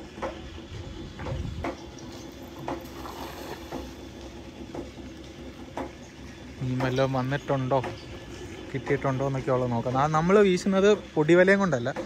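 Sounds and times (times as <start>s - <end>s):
pump motor humming: 0.0s - 12.0s.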